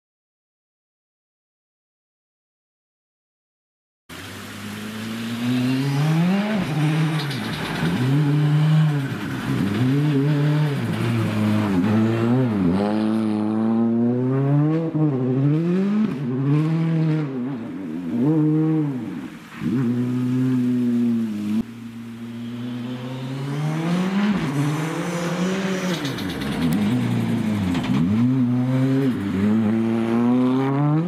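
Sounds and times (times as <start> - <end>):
rally car engine revving: 4.3 - 31.0.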